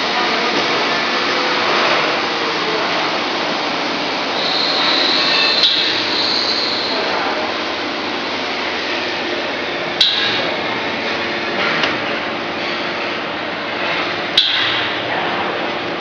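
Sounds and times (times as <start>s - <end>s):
press machine rushing noise: 0.0s - 16.0s.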